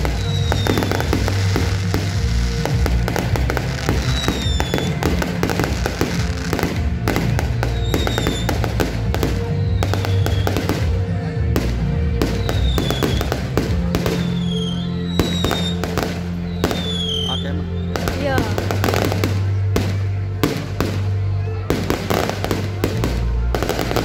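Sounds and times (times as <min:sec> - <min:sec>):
fireworks bursting and crackling: 0:00.0 - 0:24.0
music playing: 0:00.0 - 0:24.0.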